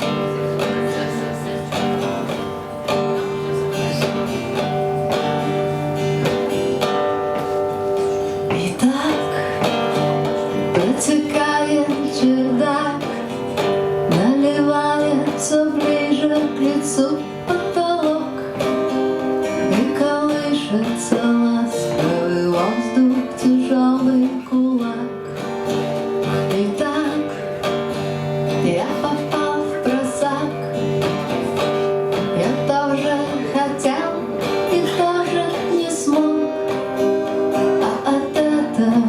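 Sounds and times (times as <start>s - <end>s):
strummed acoustic guitar: 0.0s - 39.0s.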